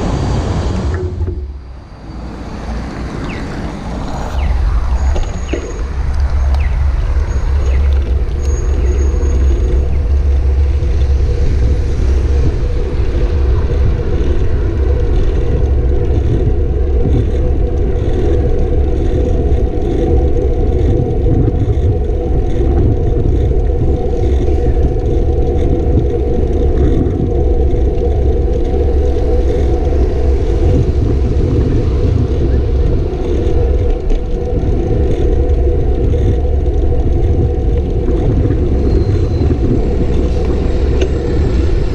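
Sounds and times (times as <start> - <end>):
road noise: 0.0 - 41.9
wind rumble: 0.0 - 41.9.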